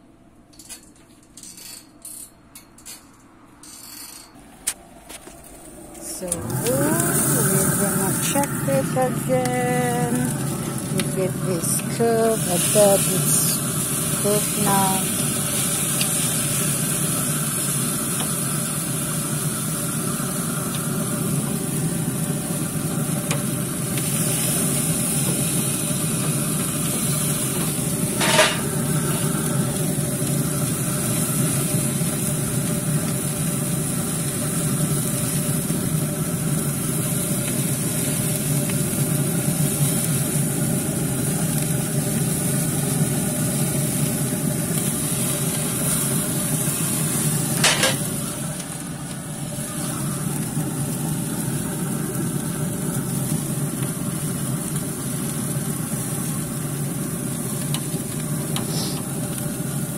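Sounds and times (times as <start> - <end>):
low rumble of fire: 4.5 - 59.9
steaks sizzling over flames: 6.2 - 59.9.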